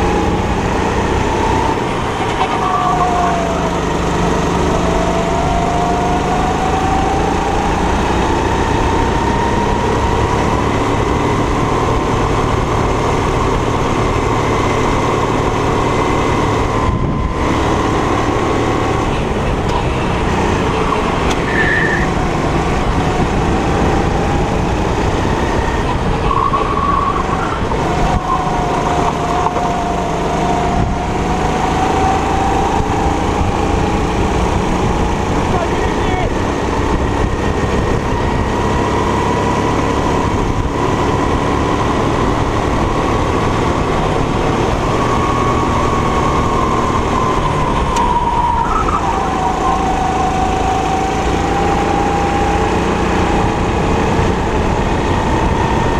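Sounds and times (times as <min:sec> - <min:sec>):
kart engine running hard: 0:00.0 - 0:55.9.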